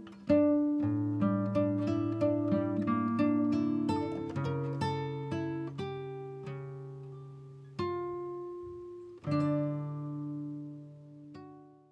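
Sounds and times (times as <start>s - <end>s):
slow guitar music: 0.0s - 11.9s.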